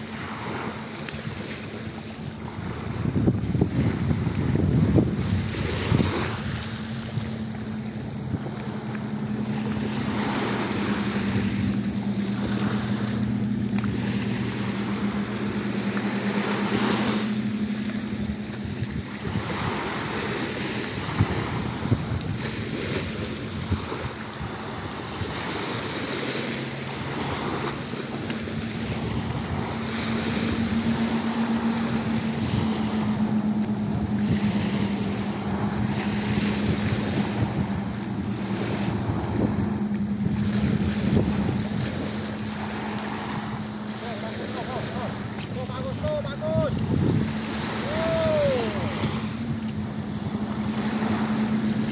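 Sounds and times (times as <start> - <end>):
speedboat engines droning: 0.0 - 51.9
spray and waves hissing: 0.0 - 51.9
wind on microphone: 0.0 - 51.9.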